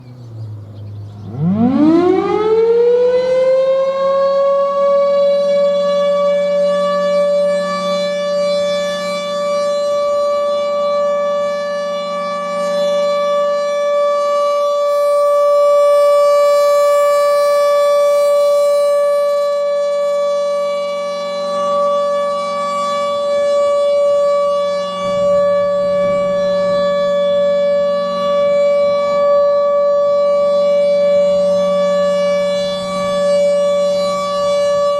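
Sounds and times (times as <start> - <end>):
civil defense siren: 0.0 - 34.9.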